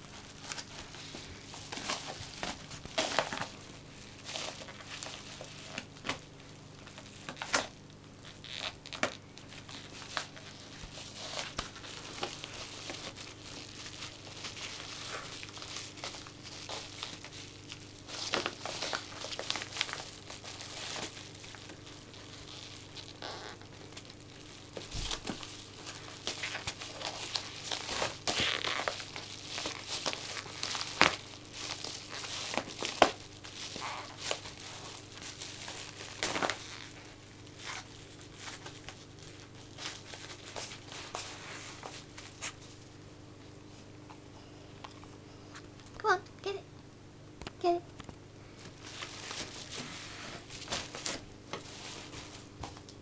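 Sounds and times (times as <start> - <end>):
paper envelope crinkling: 0.0 - 42.4.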